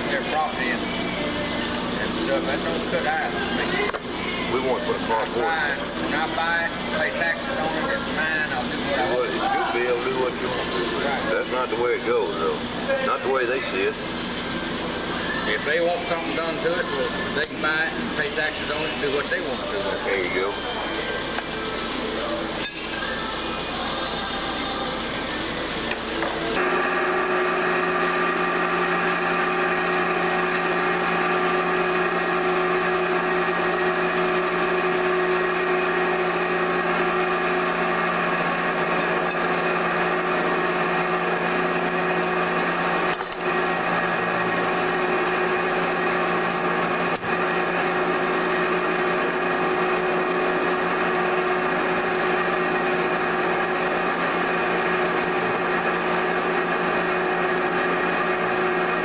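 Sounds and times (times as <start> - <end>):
potter's wheel motor hum: 0.0 - 59.0.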